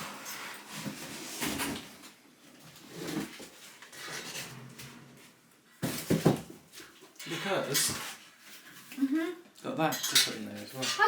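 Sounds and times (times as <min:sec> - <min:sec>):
items scraping and rattling: 0:00.0 - 0:09.1, 0:09.8 - 0:11.0.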